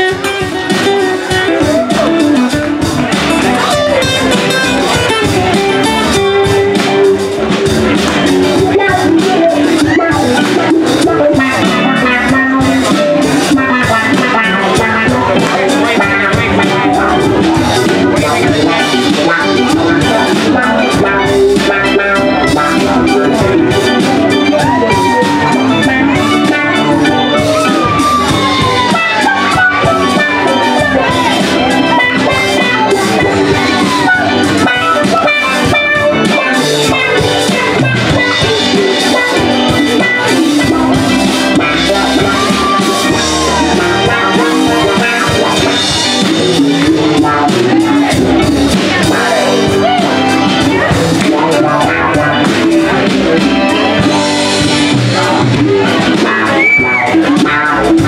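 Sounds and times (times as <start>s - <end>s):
drum kit: 0.0s - 58.0s
guitars: 0.0s - 58.0s
keyboard: 0.0s - 58.0s.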